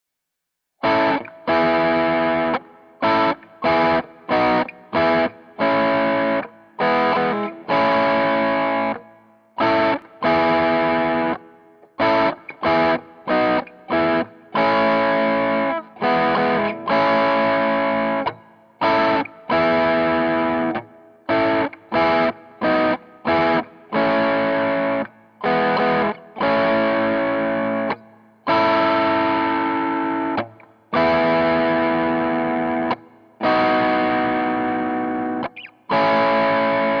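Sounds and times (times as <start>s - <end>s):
overdriven electric guitar chords: 0.8s - 37.0s.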